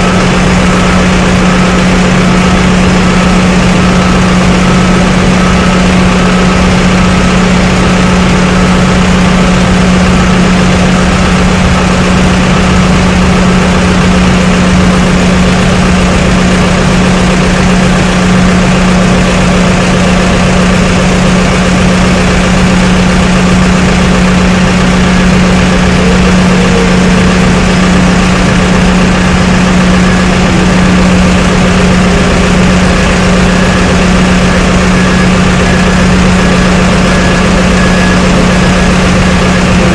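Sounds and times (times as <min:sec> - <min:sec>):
machinery droning: 0:00.0 - 0:39.9.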